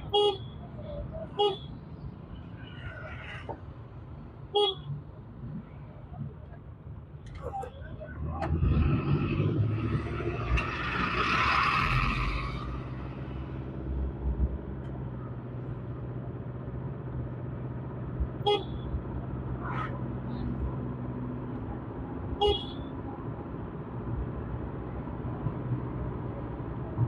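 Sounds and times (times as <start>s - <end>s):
car engine hum with road noise: 0.0s - 27.0s
passing traffic rush: 0.0s - 27.0s.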